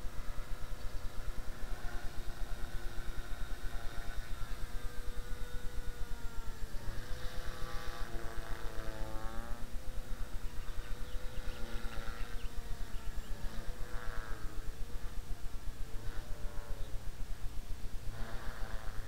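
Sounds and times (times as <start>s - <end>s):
rc helicopter rotor whine: 0.0s - 19.0s.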